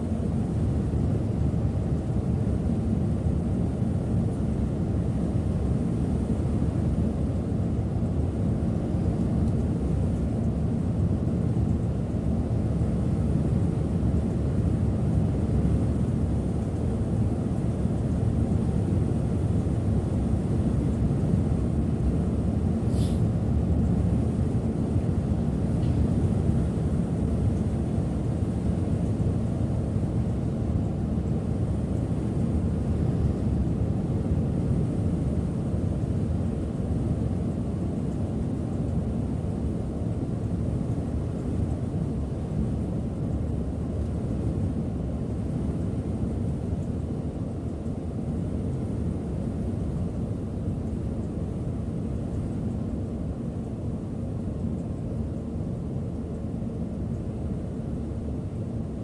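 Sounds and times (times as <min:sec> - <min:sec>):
bus rumbling inside cabin: 0:00.0 - 0:59.0.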